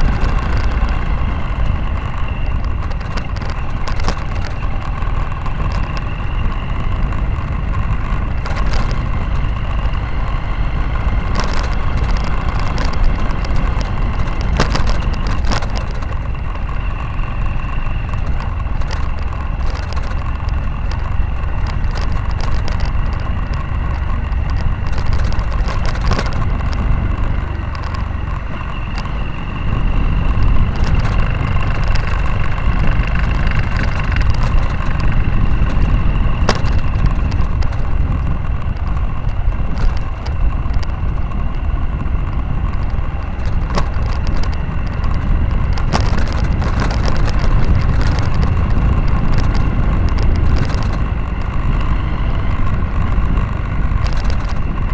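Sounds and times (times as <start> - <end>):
motorcycle engine running: 0.0 - 54.9
wind rumble on microphone: 0.0 - 54.9.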